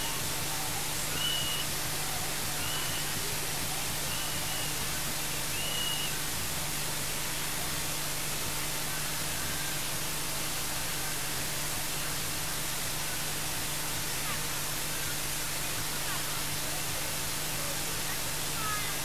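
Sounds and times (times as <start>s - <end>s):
faint low hum: 0.0s - 19.0s
steady static hiss: 0.0s - 19.0s.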